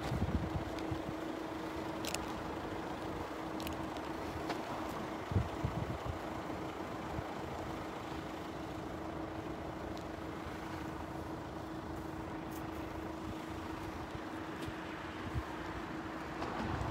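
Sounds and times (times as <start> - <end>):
road traffic hum: 0.0 - 16.9.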